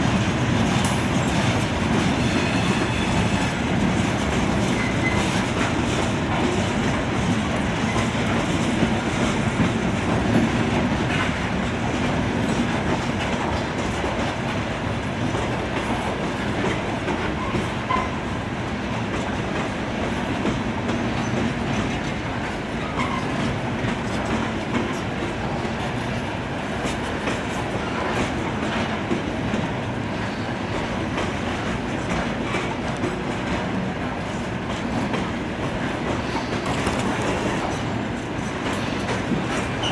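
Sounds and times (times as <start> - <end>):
train rumble: 0.0 - 39.9
train wheels clattering over rail joints: 0.0 - 39.9.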